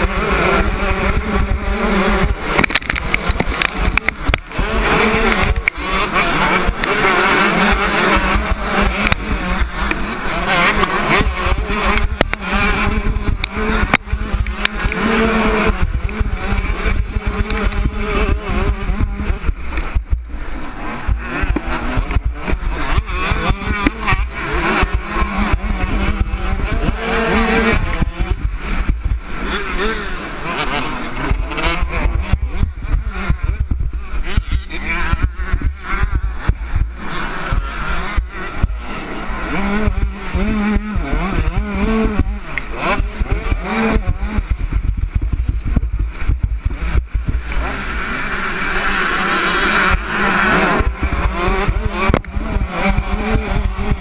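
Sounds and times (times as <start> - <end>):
dirt bike engines revving: 0.0 - 54.0
low wind rumble: 0.0 - 54.0.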